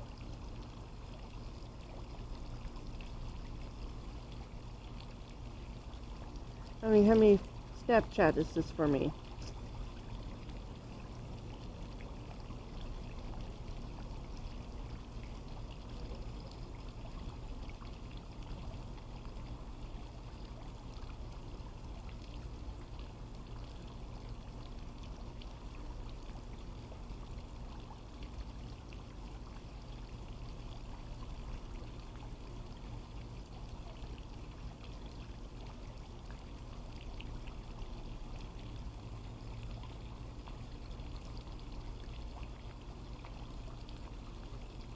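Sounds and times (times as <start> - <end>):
low steady hum: 0.0 - 44.9
water splashing in a pool: 0.0 - 44.9.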